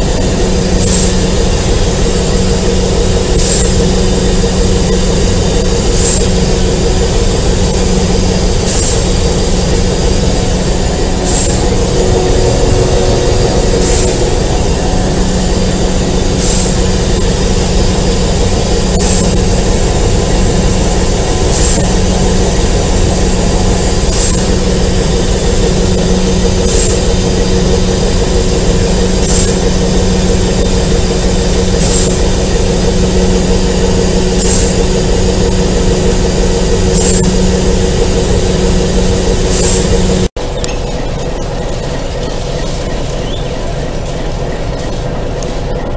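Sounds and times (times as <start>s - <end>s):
locomotive engine drone: 0.0s - 45.9s
train ride rumble: 0.0s - 45.9s.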